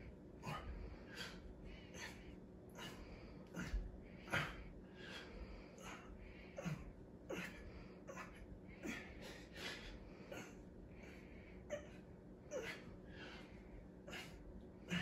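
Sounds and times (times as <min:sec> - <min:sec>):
man breathing hard and grunting: 0:00.1 - 0:15.0.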